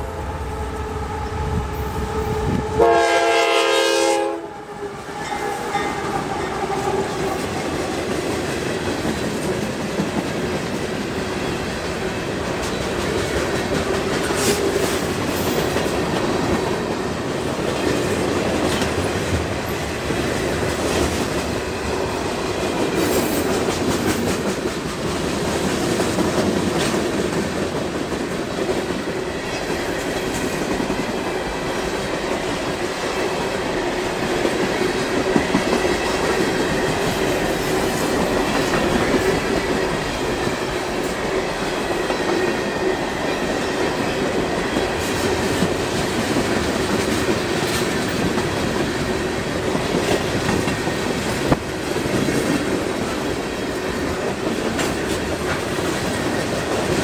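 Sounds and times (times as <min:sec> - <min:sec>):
freight train rumbling past: 0:00.0 - 0:57.0
train wheels clicking on rails: 0:05.0 - 0:57.0.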